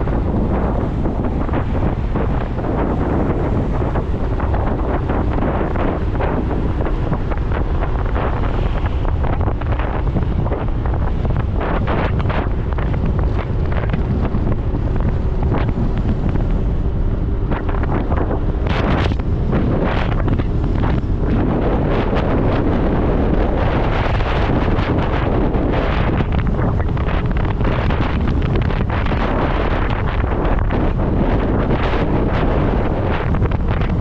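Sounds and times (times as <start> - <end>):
motorcycle running: 0.0 - 34.0
wind rushing over microphone: 0.0 - 34.0.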